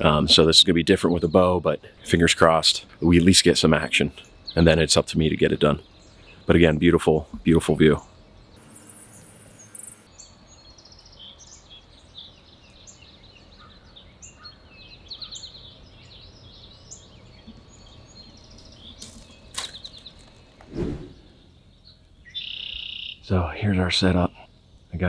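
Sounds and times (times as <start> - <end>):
outdoor ambience hiss: 0.0 - 25.0
songbirds chirping and singing: 0.0 - 25.0.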